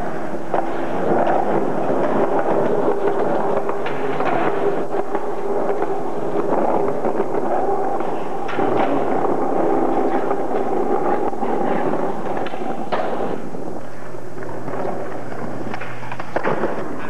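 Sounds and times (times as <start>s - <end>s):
skateboard wheels rolling on concrete: 0.0s - 17.0s
skateboard cracks and landings: 0.5s - 17.0s.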